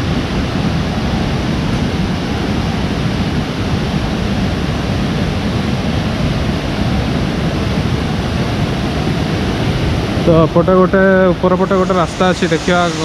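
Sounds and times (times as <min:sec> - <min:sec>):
fast-flowing stream rushing: 0:00.0 - 0:13.0.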